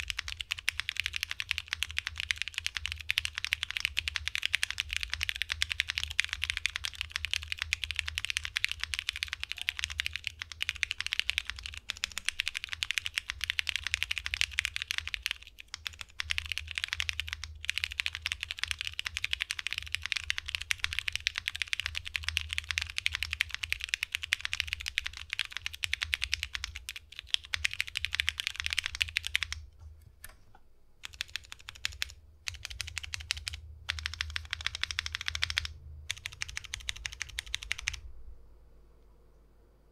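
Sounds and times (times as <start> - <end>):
fast typing on mechanical keyboard: 0.0 - 29.7, 31.0 - 38.0.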